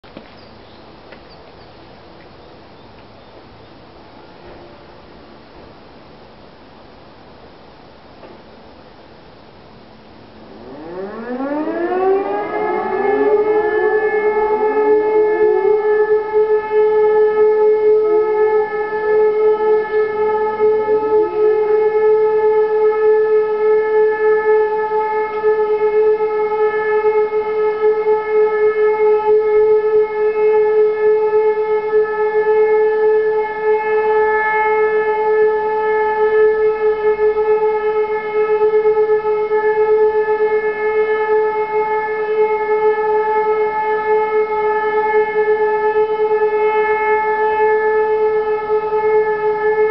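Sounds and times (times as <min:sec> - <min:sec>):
civil defence sirens: 0:00.1 - 0:49.9.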